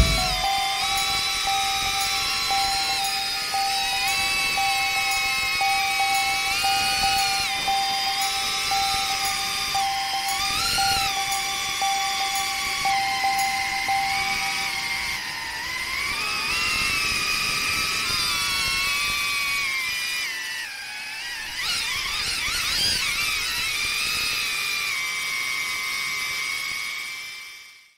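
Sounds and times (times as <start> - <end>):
drone motors whining: 0.0 - 27.8.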